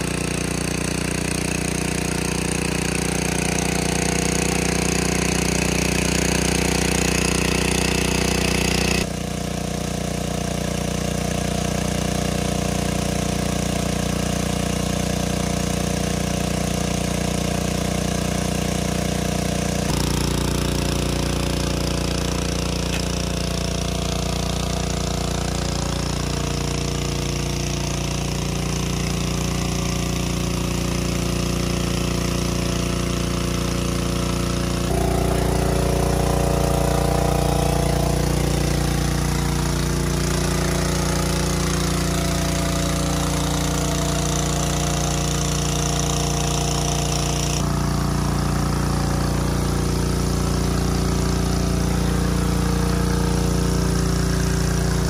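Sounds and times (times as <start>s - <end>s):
engine-driven water pump running: 0.0s - 55.0s.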